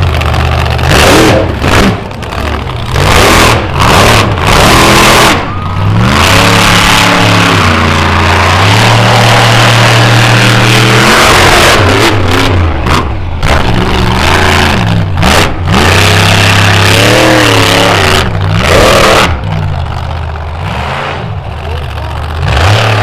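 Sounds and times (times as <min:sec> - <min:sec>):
monster truck engine revving: 0:00.0 - 0:23.0.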